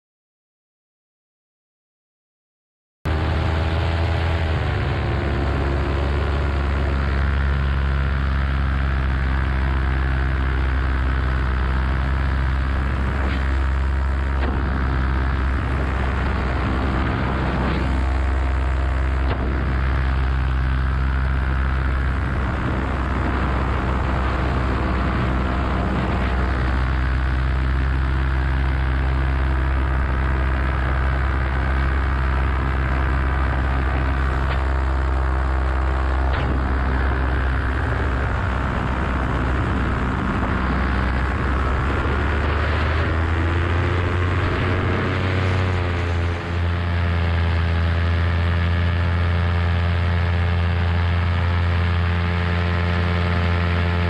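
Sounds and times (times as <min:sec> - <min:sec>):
paramotor engine and propeller: 0:03.1 - 0:54.0.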